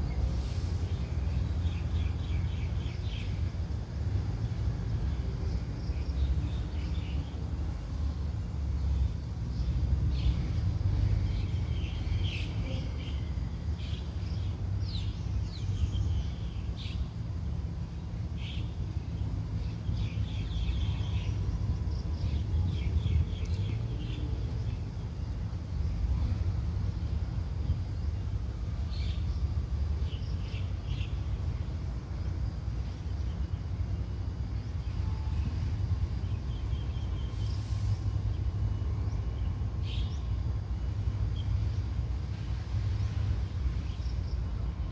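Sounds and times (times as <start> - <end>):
steady low rumble: 0.0 - 44.9.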